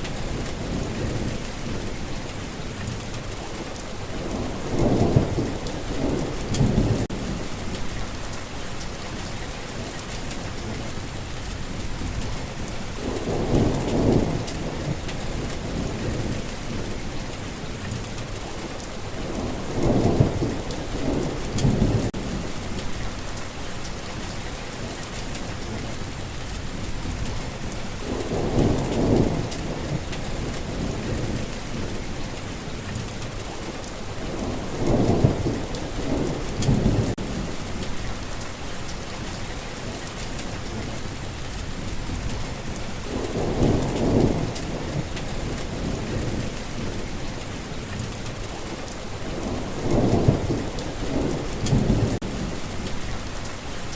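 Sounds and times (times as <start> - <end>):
low rumbles of thunder: 0.0 - 53.8
heavy rain hissing: 0.0 - 53.9.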